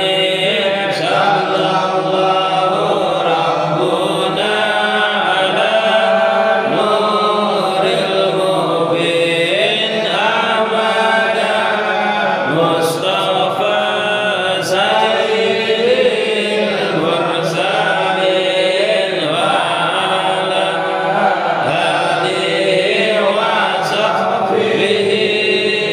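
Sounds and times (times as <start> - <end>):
men chanting together: 0.0 - 25.9.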